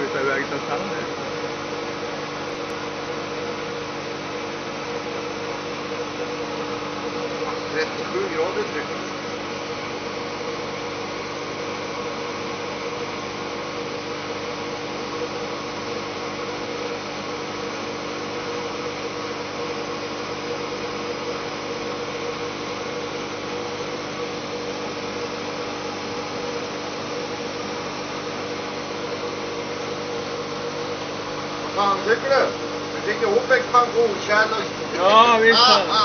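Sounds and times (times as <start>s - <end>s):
fan humming in metal duct: 0.0s - 36.0s.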